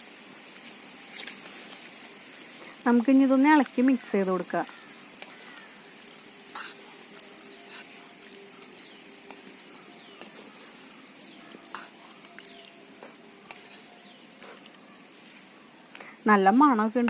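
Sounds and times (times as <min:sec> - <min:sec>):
curry bubbling with pops: 0:00.0 - 0:17.0
steady hiss: 0:00.0 - 0:17.0.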